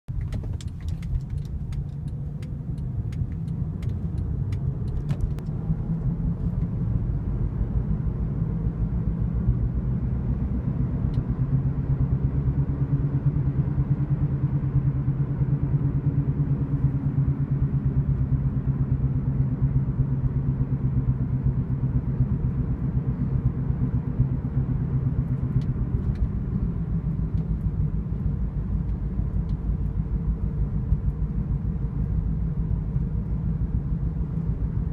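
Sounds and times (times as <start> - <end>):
car whirring drone: 0.1 - 34.9.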